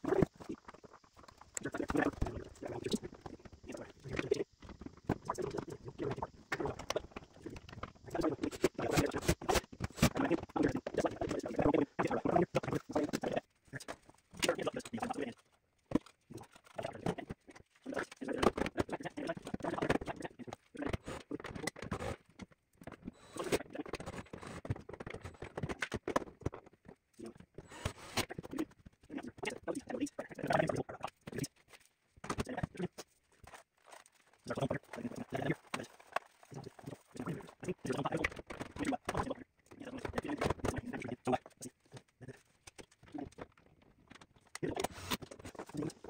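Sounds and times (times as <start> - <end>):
plastic parts clattering: 0.1 - 29.4, 30.5 - 46.0.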